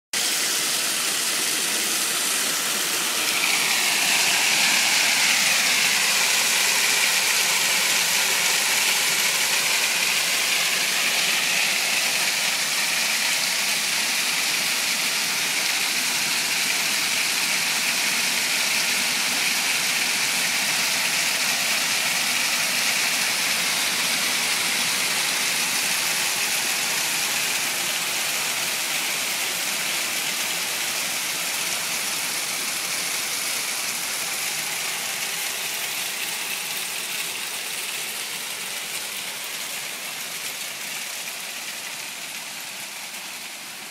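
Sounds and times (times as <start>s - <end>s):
hail pelting roofs and street: 0.2s - 43.9s.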